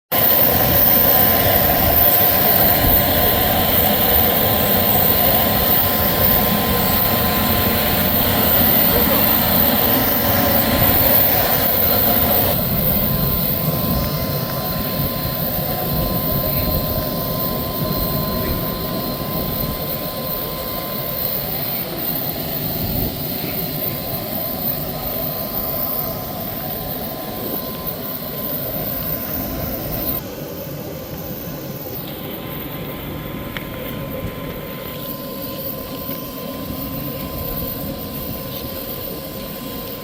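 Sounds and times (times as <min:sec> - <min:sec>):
aircraft engine rush: 0:00.1 - 0:40.0
faint steady whine: 0:00.1 - 0:40.0.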